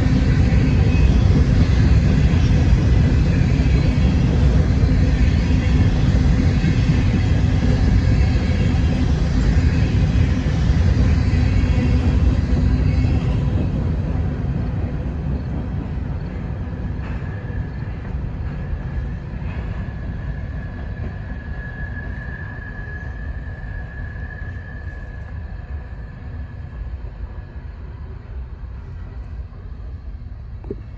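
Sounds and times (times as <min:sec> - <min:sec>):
freight train rumbling past: 0:00.0 - 0:30.9.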